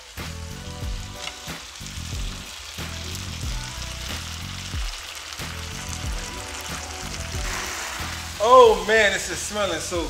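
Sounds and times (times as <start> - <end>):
chicken sizzling in grill pan: 0.0 - 10.0.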